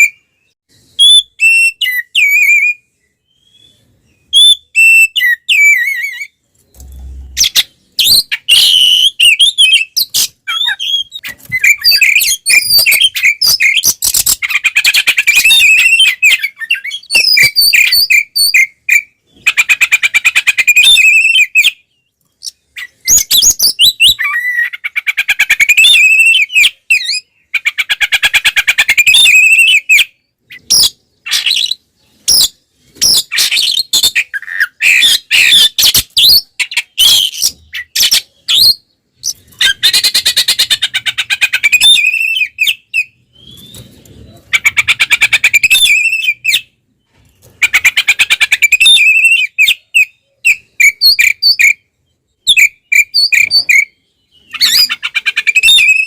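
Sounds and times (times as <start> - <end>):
bird singing whistles and trills: 0.0 - 6.4, 7.2 - 44.0, 44.6 - 46.8, 47.6 - 56.0.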